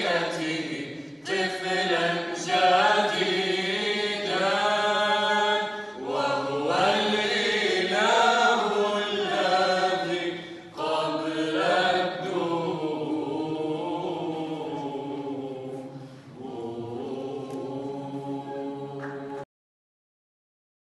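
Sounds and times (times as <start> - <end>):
choir singing a cappella: 0.0 - 19.5.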